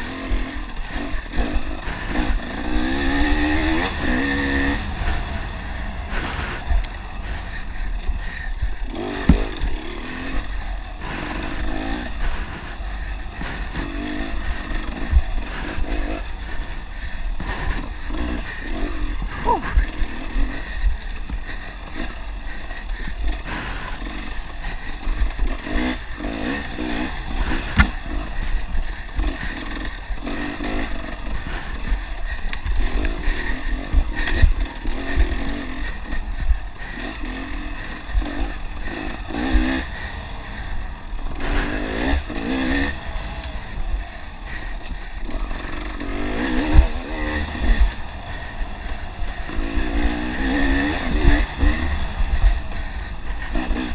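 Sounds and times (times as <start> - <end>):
clatter: 0.0 - 53.9
dirt bike engine revving: 0.0 - 53.9.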